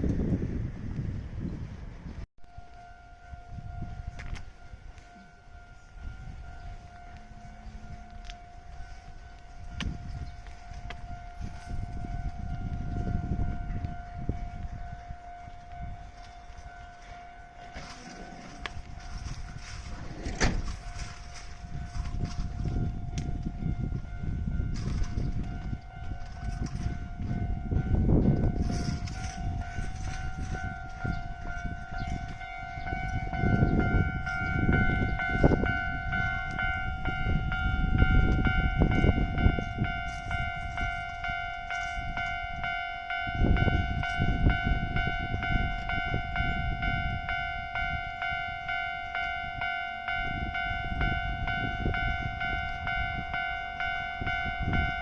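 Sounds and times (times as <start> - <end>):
train rumbling past: 0.0 - 55.0
level crossing bell clanging: 2.4 - 55.0.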